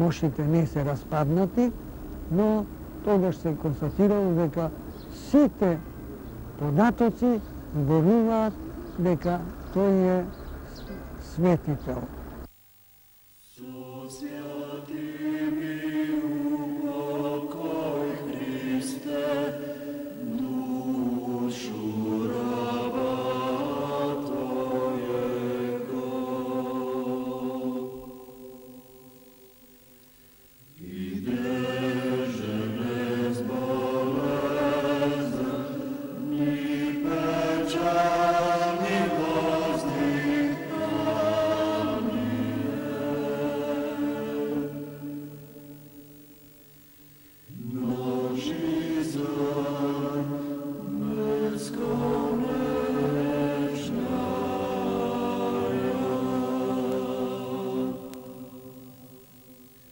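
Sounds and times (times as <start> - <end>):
choir chanting sustained chords: 0.0 - 12.6, 13.2 - 59.9.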